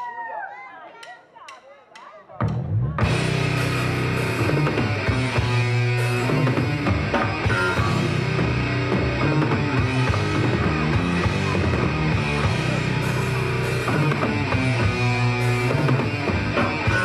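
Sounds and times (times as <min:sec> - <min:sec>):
drum kit: 0:02.0 - 0:17.0
electric guitars: 0:03.0 - 0:17.0.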